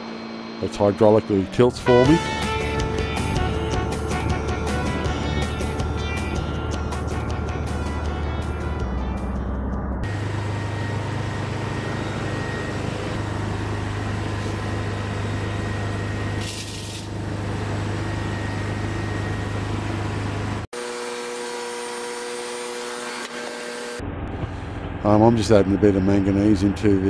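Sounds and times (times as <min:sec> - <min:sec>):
induction furnace humming: 0:00.0 - 0:20.7, 0:22.4 - 0:27.0.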